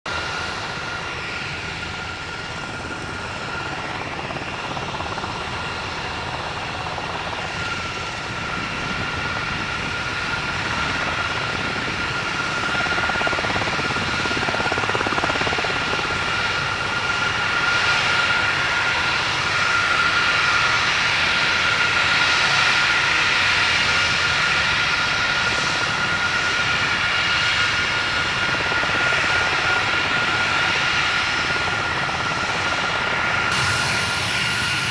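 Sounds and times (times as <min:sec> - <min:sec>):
jet engines taxiing: 0:00.1 - 0:34.9.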